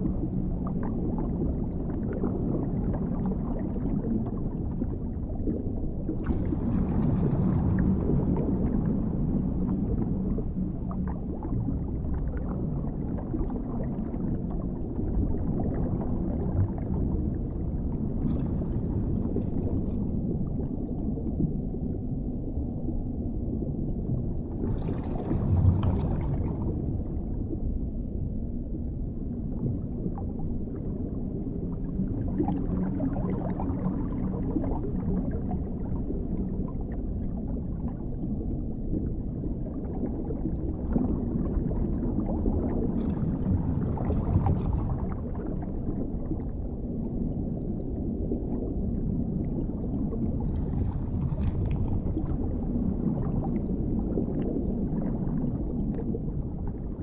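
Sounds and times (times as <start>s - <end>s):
water gurgling: 0.0s - 27.6s, 29.4s - 57.0s
deep underwater rumbling: 0.0s - 57.0s.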